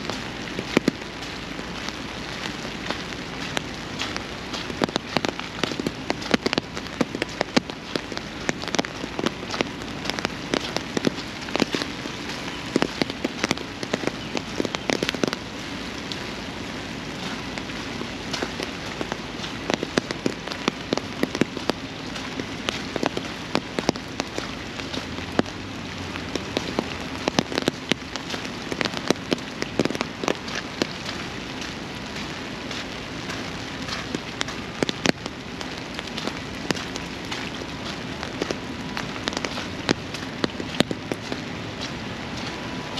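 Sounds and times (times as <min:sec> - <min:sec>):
sharp raindrop hits: 0:00.0 - 0:42.9
steady rain: 0:00.0 - 0:42.9.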